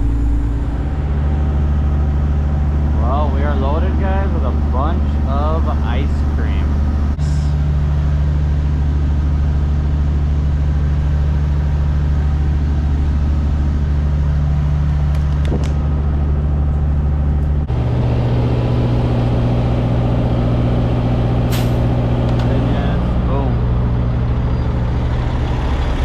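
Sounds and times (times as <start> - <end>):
truck diesel engine droning: 0.0 - 26.0.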